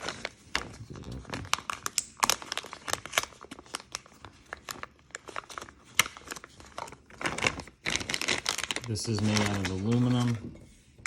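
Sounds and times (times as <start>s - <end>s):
packaging being torn and crinkled: 0.0s - 10.4s.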